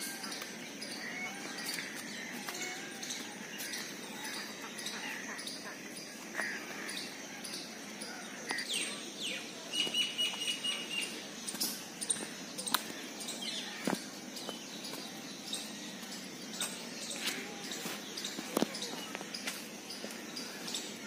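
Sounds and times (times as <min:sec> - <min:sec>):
birds chirping: 0:00.0 - 0:21.0
steady outdoor hiss: 0:00.0 - 0:21.0.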